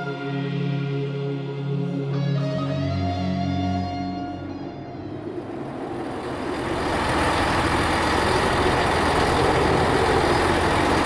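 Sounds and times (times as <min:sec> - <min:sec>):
diesel train passing: 0:00.0 - 0:11.0.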